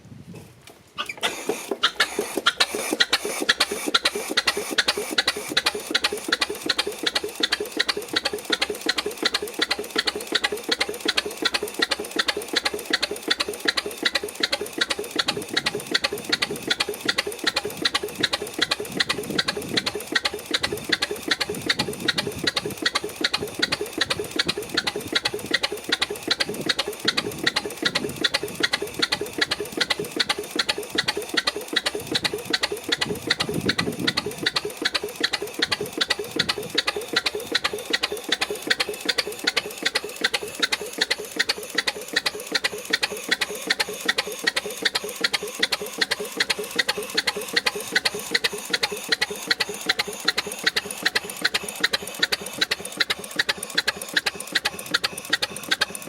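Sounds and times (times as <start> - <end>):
stationary engine knocking: 1.2 - 56.0.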